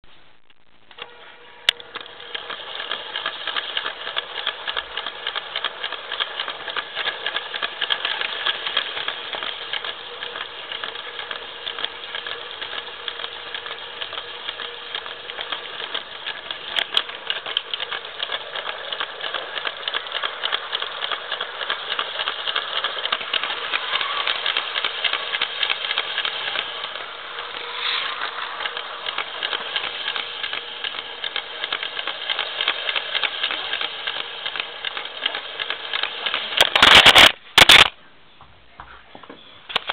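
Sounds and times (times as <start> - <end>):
small electric motor whine: 1.0 - 37.3
toy train rattling on track: 1.0 - 37.9, 39.7 - 39.9.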